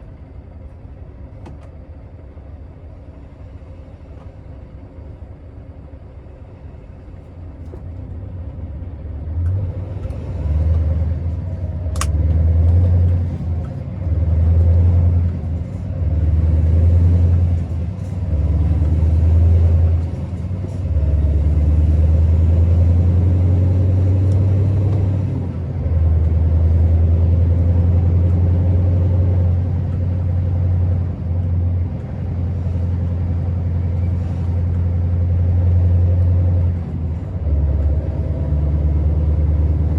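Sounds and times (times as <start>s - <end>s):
truck diesel engine accelerating: 0.0s - 39.9s.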